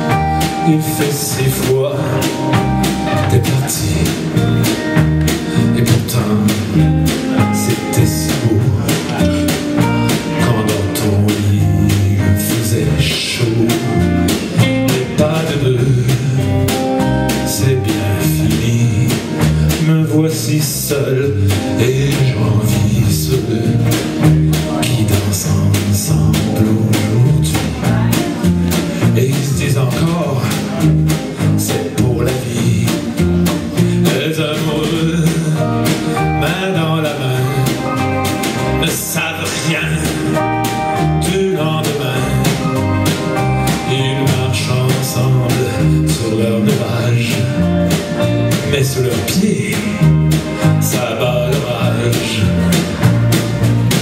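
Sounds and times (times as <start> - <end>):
live band playing: 0.0 - 54.0
person singing: 0.0 - 54.0.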